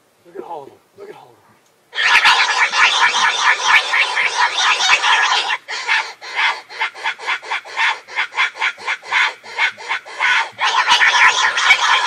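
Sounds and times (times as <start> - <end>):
raspy chatter of sow: 2.0 - 12.0.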